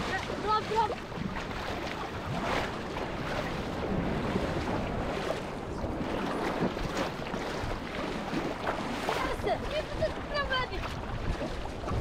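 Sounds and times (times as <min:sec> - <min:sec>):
water splashing around paddleboard: 0:00.0 - 0:12.0
wind buffeting microphone: 0:00.0 - 0:12.0.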